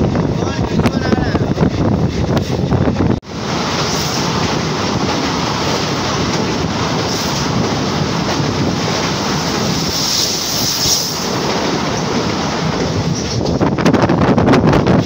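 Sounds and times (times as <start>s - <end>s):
train wheels on rails rushing: 0.0s - 15.0s
wind on microphone: 0.0s - 15.0s.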